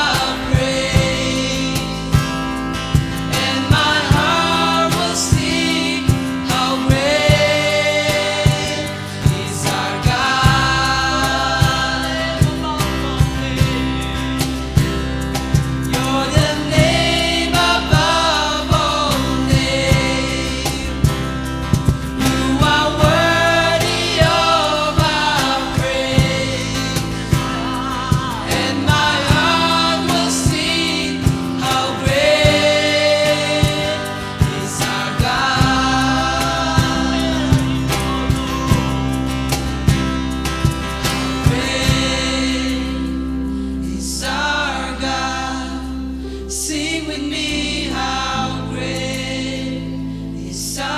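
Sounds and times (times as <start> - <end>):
regular drum beat: 0.0 - 42.3
steady bass: 0.0 - 50.9
voices singing together: 0.0 - 50.9.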